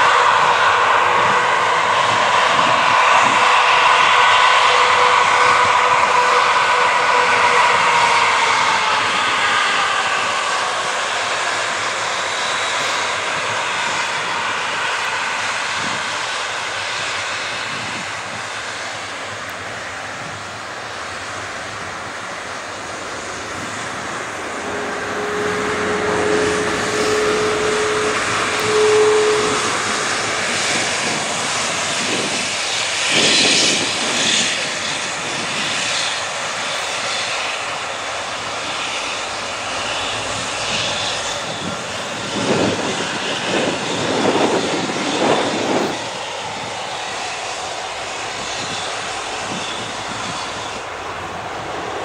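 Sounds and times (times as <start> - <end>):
jet engines rushing: 0.0 - 52.0.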